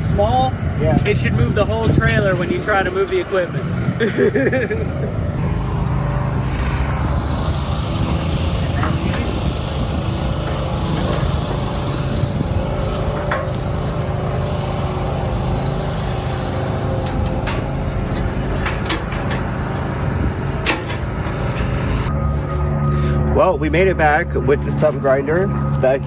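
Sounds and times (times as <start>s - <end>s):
engine droning: 0.0s - 26.0s.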